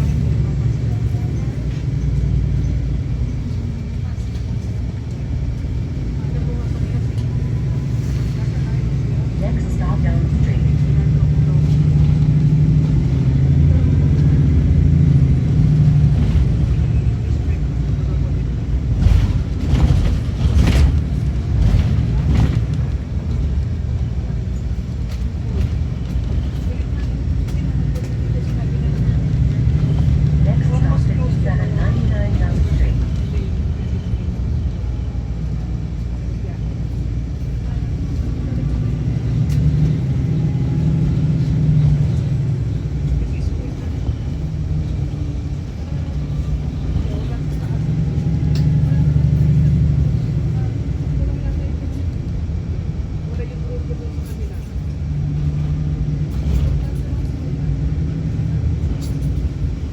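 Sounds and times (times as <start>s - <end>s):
bus rumbling in motion: 0.0s - 59.9s.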